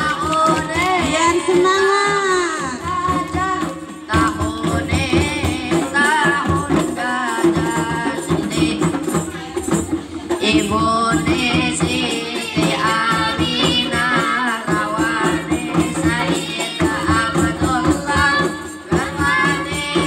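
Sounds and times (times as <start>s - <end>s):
frame drums beating: 0.0s - 20.0s
voices singing devotional melody: 0.0s - 20.0s.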